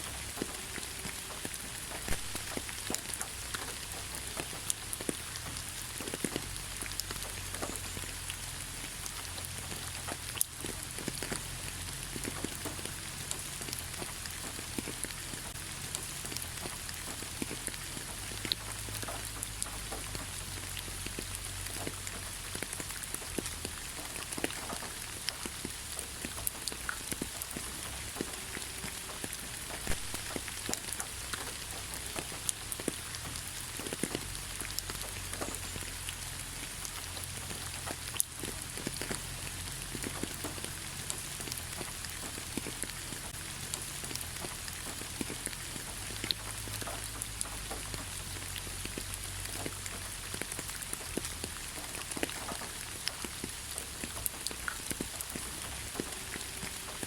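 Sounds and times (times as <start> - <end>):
rain hissing: 0.0 - 57.0
raindrops ticking: 0.0 - 57.0.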